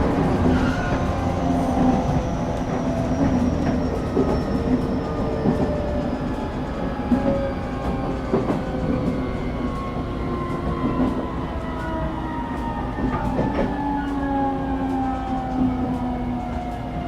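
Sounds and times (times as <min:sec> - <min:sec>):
clacks over rail joints: 0:00.0 - 0:17.0
train wheels rumbling on rails: 0:00.0 - 0:17.0.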